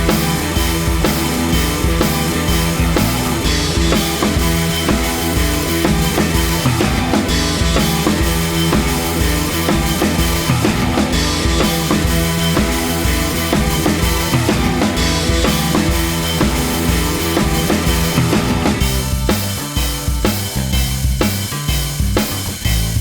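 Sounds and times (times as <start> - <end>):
rock music with drum beat: 0.0 - 23.0.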